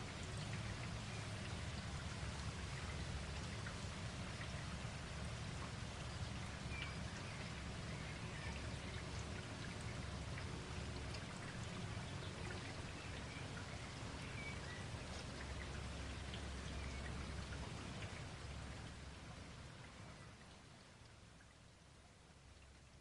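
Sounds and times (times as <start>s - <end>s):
rain pattering on leaves: 0.0s - 23.0s.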